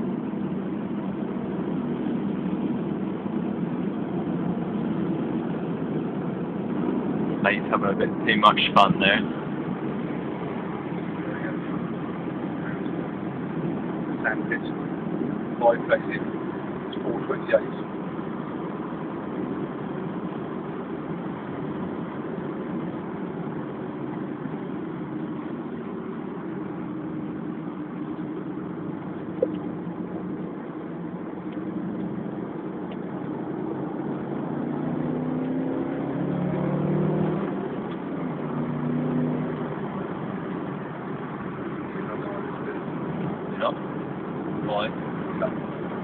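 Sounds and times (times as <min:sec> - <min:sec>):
car engine revving: 0:00.0 - 0:46.0
road noise inside car: 0:00.0 - 0:46.0.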